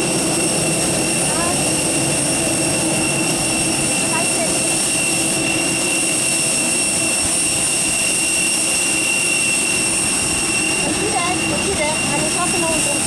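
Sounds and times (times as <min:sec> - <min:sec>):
jet turbine whine: 0:00.0 - 0:13.0.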